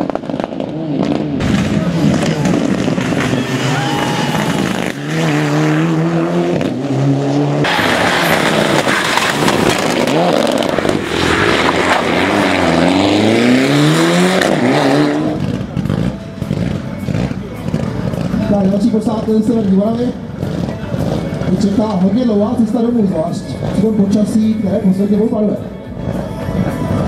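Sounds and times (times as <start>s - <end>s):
rally car engine revving: 0.0s - 27.0s
rushing noise of car passing: 0.0s - 27.0s.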